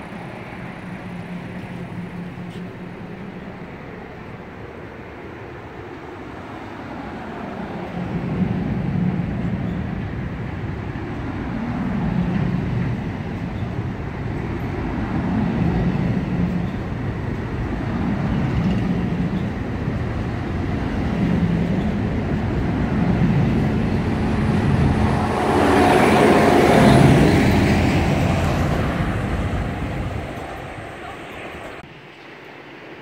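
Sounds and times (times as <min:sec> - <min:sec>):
steel wheels rumbling on rails: 0:00.0 - 0:31.9.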